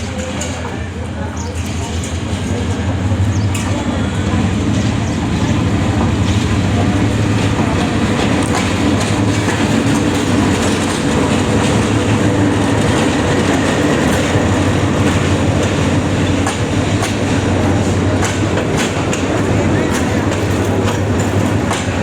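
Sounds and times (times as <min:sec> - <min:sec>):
train rumbling on rails: 0:00.0 - 0:22.0
wheel clatter: 0:01.4 - 0:22.0.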